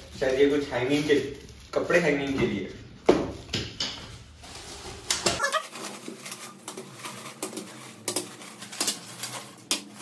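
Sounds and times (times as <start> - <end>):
plastic packaging crinkling: 0.1 - 3.4, 4.2 - 10.0.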